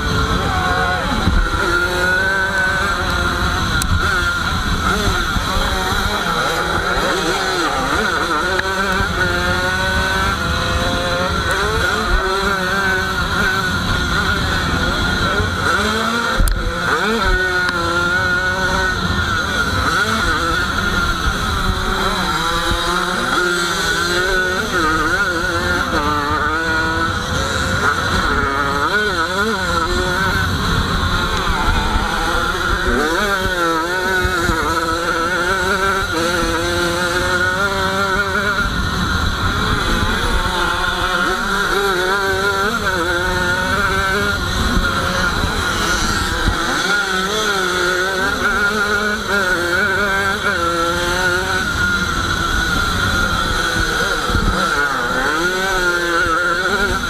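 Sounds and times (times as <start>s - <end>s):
dirt bike engine revving: 0.0s - 57.0s
wind on microphone: 0.0s - 57.0s.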